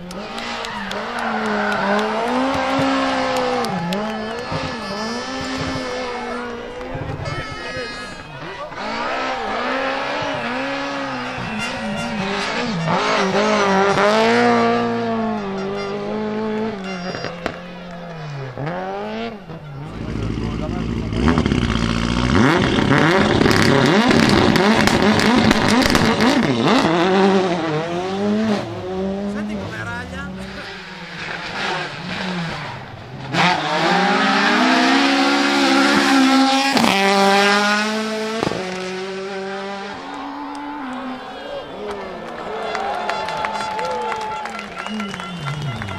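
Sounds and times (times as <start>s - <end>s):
rally car engine revving: 0.0s - 42.6s, 44.0s - 45.9s.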